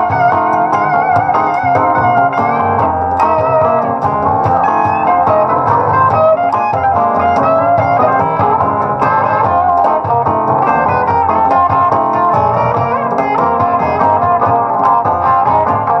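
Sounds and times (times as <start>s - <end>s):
live band playing: 0.0s - 16.0s
piano playing quick runs: 0.0s - 16.0s.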